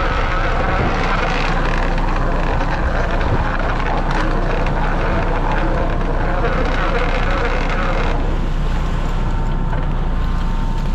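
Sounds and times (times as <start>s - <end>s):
boat engine and deck machinery drone: 0.0s - 10.9s.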